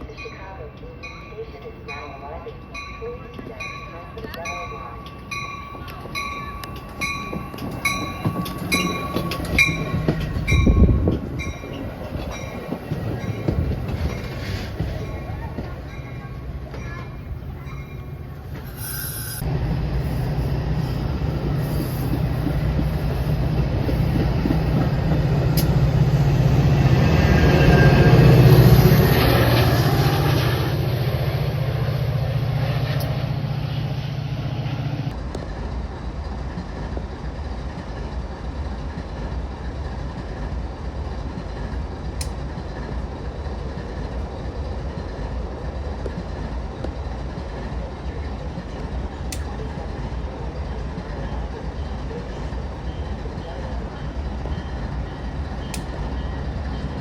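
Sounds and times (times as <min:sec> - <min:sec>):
train engine hum: 0:00.0 - 0:57.0
train wheels rolling on rails: 0:00.1 - 0:57.0.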